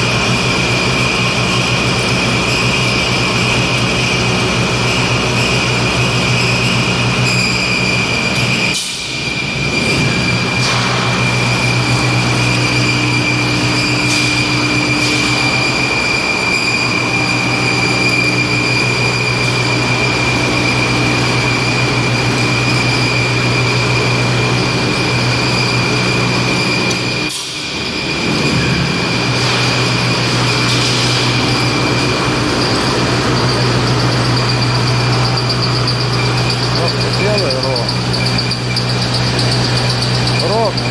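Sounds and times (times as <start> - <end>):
high-pitched machine whine: 0.0 - 40.9
low machine hum: 0.0 - 40.9
pipe mill machine noise: 0.0 - 40.9.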